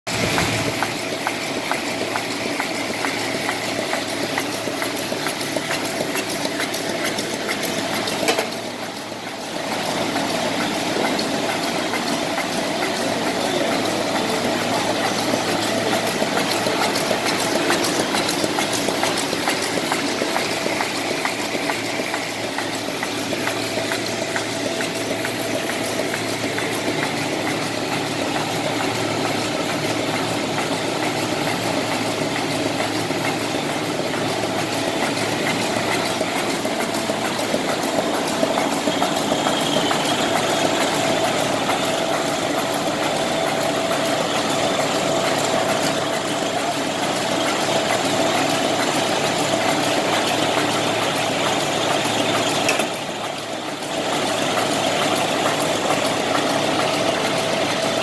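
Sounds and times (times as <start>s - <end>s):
machine clattering: 0.1s - 58.0s.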